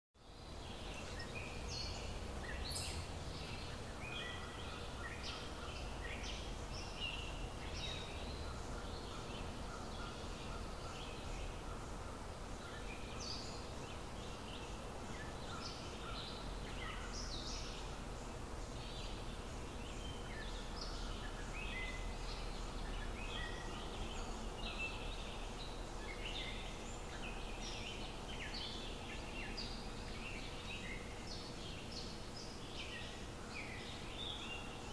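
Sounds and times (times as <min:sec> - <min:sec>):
birds chirping and calling: 0:00.7 - 0:34.9.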